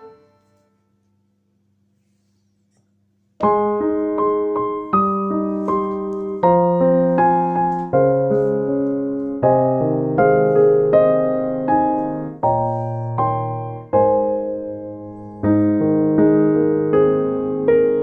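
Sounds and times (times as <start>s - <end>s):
slow piano melody: 0.0s - 2.8s, 3.4s - 18.0s.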